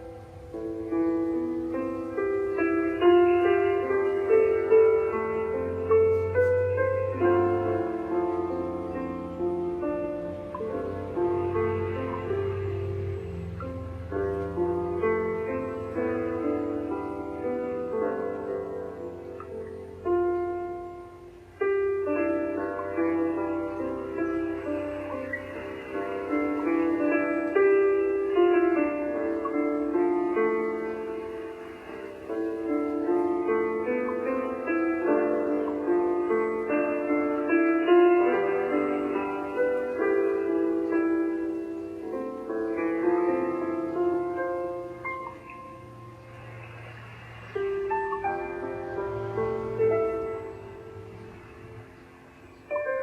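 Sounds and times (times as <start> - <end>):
slow instrumental music: 0.0 - 53.0.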